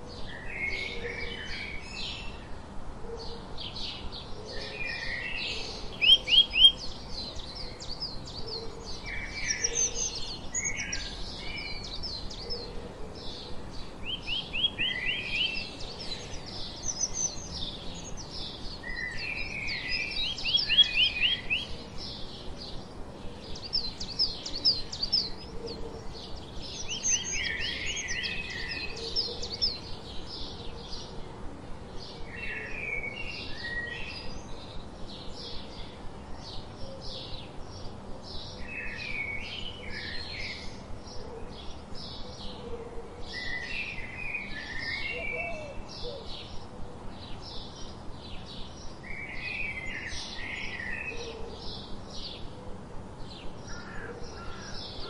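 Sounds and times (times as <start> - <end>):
sparrows chirping: 3.3 - 42.6, 43.2 - 55.0.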